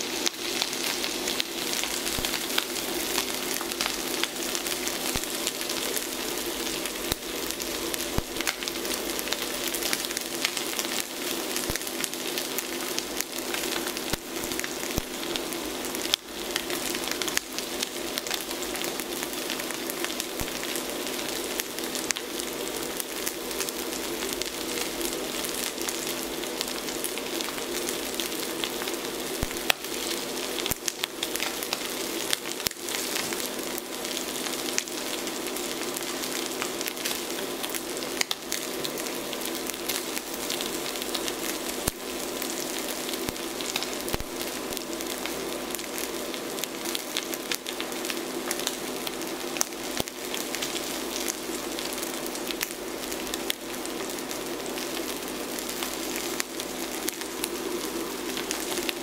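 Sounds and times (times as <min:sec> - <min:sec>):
steak sizzling in a skillet: 0:00.0 - 0:59.0.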